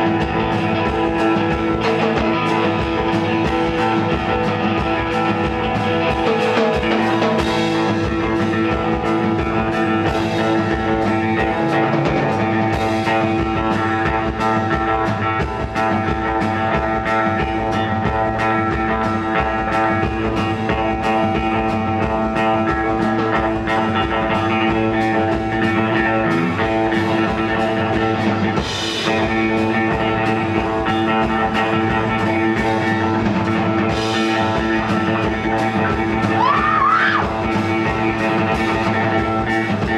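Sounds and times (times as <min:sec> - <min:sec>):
guitar: 0:00.0 - 0:39.9
rock band playing live: 0:00.0 - 0:39.9
steady drum beat: 0:00.0 - 0:39.9.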